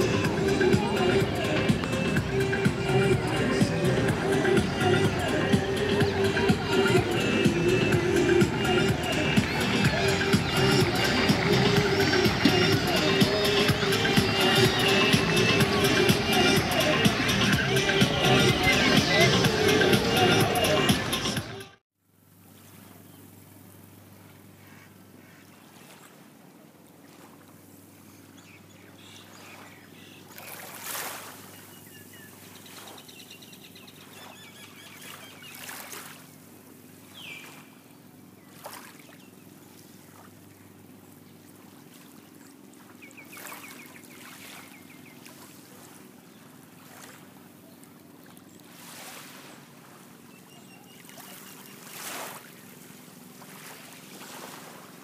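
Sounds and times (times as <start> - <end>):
water lapping at shore: 0.0 - 21.2, 22.4 - 55.0
low engine hum: 0.0 - 21.6, 31.4 - 55.0.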